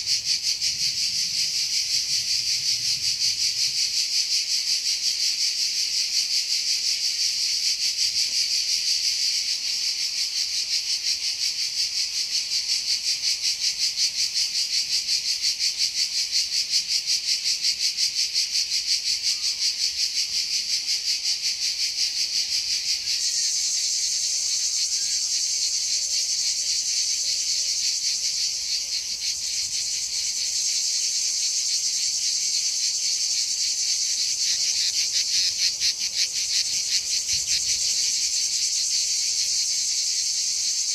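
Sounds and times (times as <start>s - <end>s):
insect chorus buzzing: 0.0s - 40.9s.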